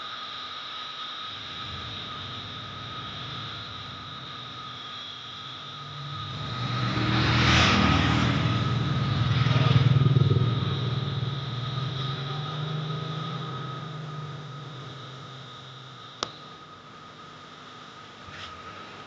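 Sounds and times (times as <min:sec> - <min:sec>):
vehicle passing by: 0:01.3 - 0:17.4.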